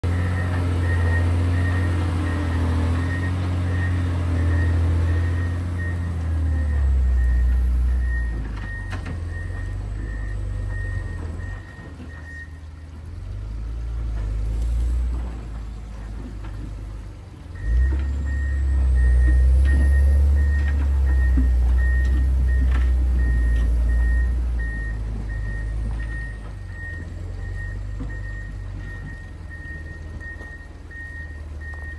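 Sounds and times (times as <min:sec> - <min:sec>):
reversing alarm beeping: 0:00.0 - 0:12.9, 0:17.6 - 0:31.9
diesel engine running: 0:00.0 - 0:31.9.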